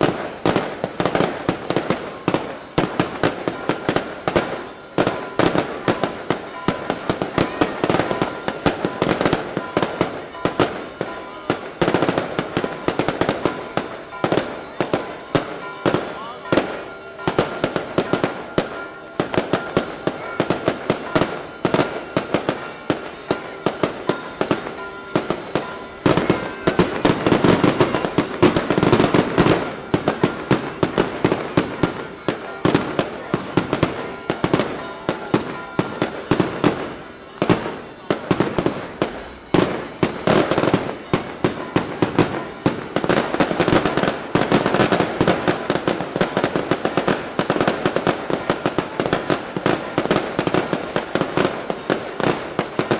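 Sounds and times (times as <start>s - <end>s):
fireworks bangs and cracks: 0.0s - 52.9s.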